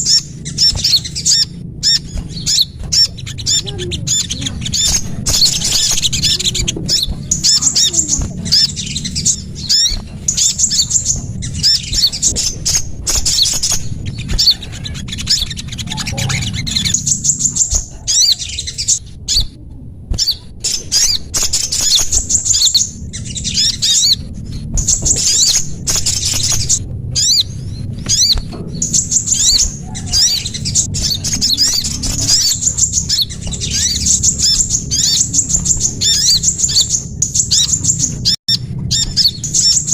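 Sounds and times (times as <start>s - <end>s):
low hum: 0.0s - 39.9s
songbirds chirping and trilling: 0.0s - 39.9s.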